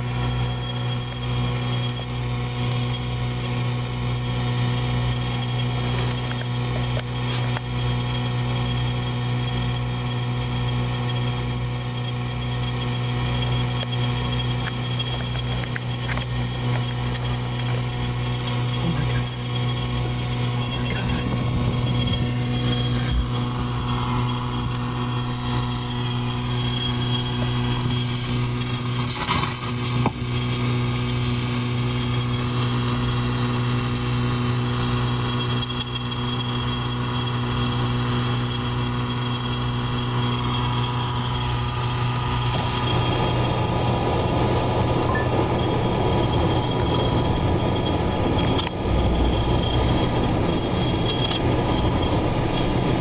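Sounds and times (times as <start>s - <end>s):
electrical mains hum: 0.0s - 53.0s.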